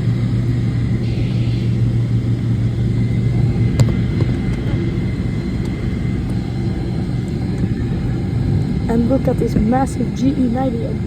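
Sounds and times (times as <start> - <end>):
jet engines humming: 0.0 - 11.0.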